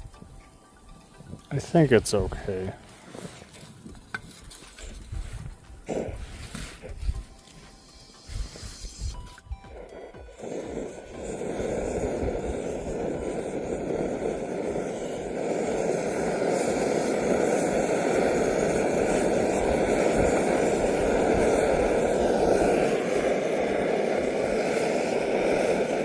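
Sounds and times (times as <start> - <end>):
camp stove burner hissing: 0.0 - 26.0.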